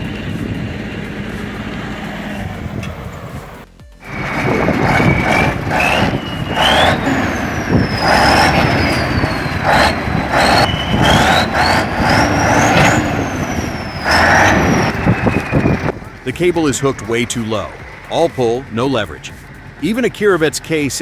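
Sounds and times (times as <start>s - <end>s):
high whine rising and falling: 0.0s - 20.4s
tractor diesel engine under load: 0.0s - 21.0s.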